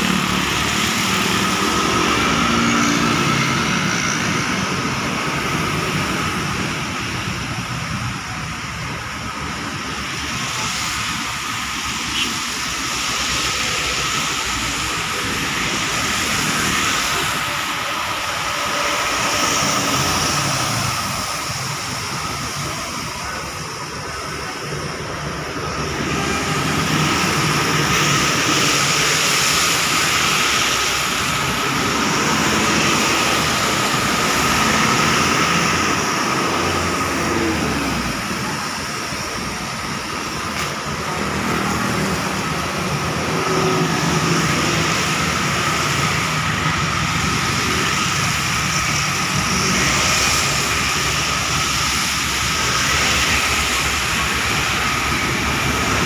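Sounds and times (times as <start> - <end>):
tyres hissing on wet road: 0.0 - 56.0
vehicle engines running: 0.0 - 56.0.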